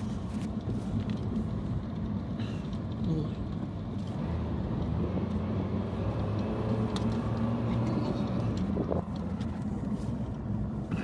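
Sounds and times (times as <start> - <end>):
car engine running: 0.0 - 11.0
tyres rolling on road: 0.0 - 11.0.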